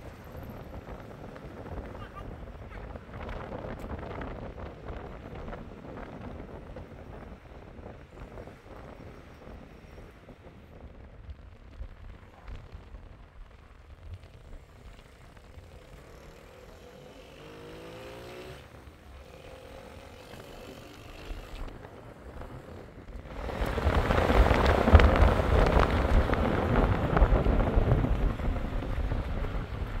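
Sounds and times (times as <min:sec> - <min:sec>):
faint street traffic: 0:00.0 - 0:30.0
wind buffeting microphone: 0:00.0 - 0:30.0.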